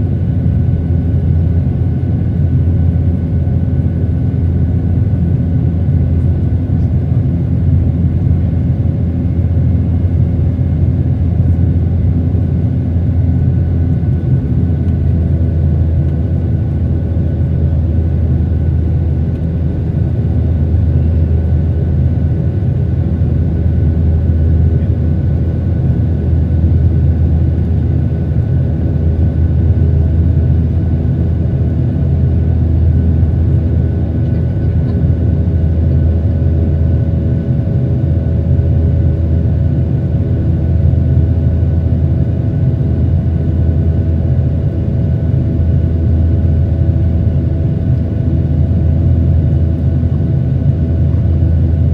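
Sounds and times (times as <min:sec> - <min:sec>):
jet engine and airflow drone: 0:00.0 - 0:51.9.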